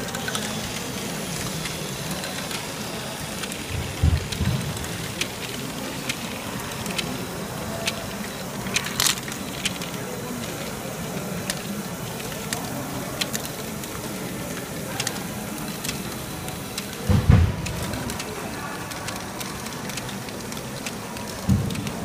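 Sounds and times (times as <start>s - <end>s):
plastic balls clicking and rattling: 0.0s - 22.0s.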